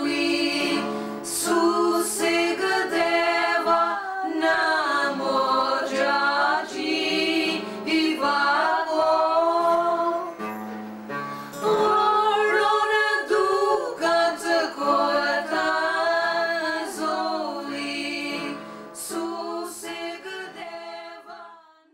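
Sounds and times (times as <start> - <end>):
choir singing in harmony: 0.0 - 10.5, 11.6 - 21.7.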